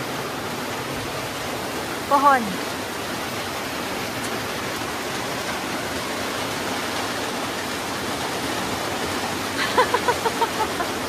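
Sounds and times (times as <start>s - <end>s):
rain on a metal roof: 0.0s - 11.0s.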